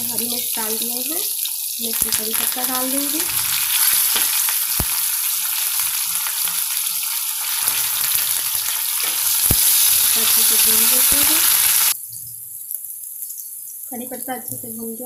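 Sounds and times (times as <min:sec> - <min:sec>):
chillies sizzling in hot oil: 0:00.0 - 0:15.0.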